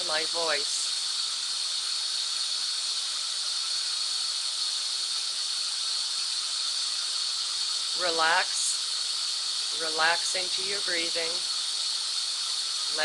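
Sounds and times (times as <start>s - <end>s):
white noise hiss: 0.0s - 13.0s.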